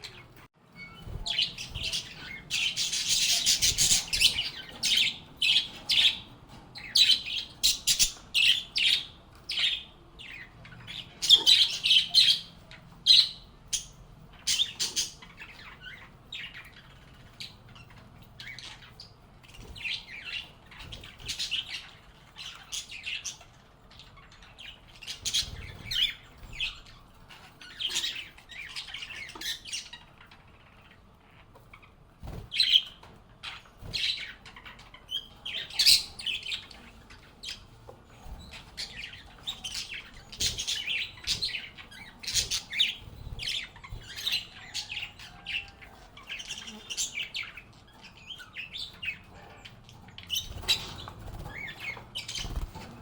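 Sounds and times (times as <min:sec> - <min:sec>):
lovebirds chirping and squawking: 0:00.0 - 0:53.0.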